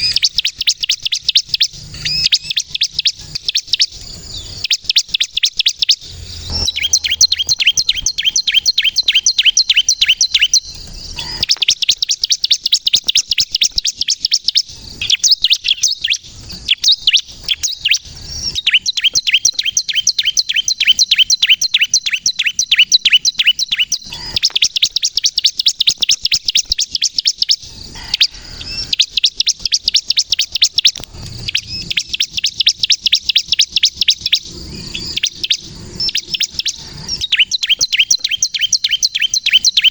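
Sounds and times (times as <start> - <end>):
bird singing rapid high trills: 0.0 - 39.9.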